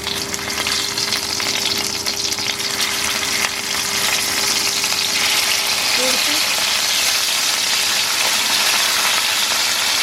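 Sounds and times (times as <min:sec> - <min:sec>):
chicken frying in hot oil: 0:00.0 - 0:10.0.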